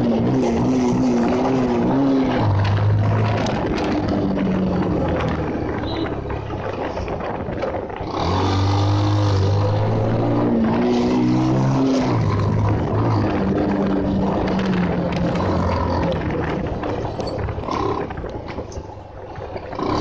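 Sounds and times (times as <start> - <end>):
motorcycle engine running: 0.0 - 20.0
wind rush: 1.2 - 20.0.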